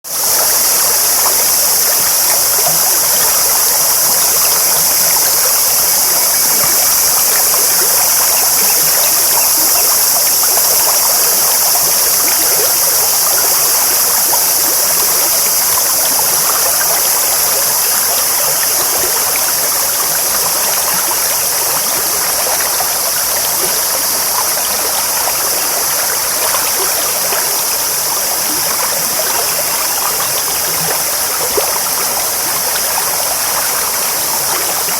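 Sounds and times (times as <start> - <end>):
stream babbling: 0.1 - 34.9.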